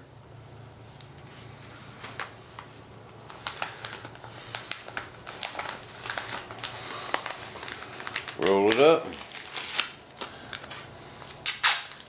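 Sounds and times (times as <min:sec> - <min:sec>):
low steady hum: 0:00.0 - 0:12.0
paper crinkling: 0:01.2 - 0:12.0.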